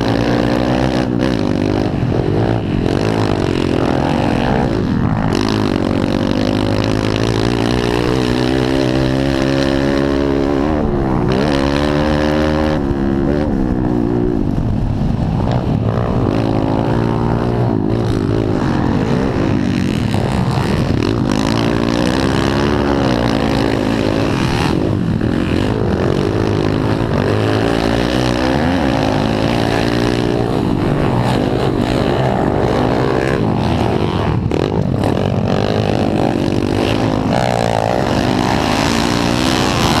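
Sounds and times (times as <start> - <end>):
pit bike engines revving: 0.0 - 40.0.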